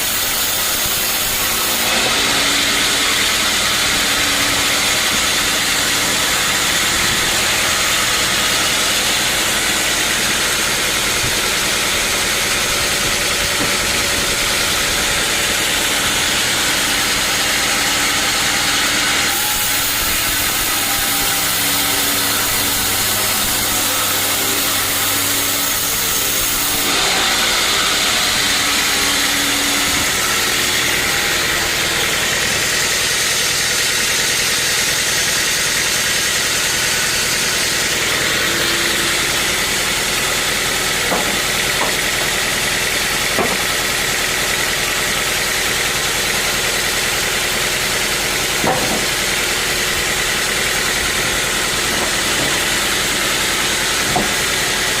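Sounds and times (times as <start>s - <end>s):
bandsaw sawmill whining: 0.0s - 55.0s.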